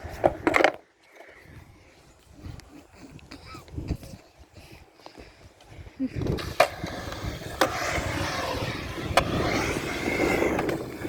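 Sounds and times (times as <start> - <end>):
skateboard wheels rolling on concrete: 0.0 - 11.0.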